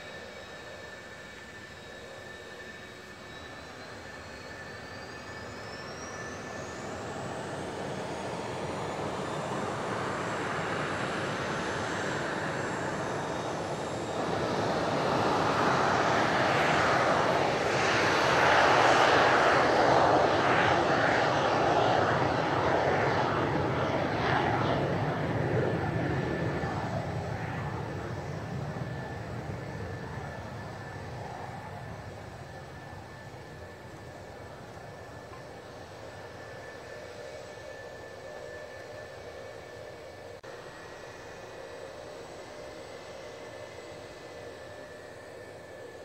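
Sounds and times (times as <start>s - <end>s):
jet engines running: 0.0s - 46.0s.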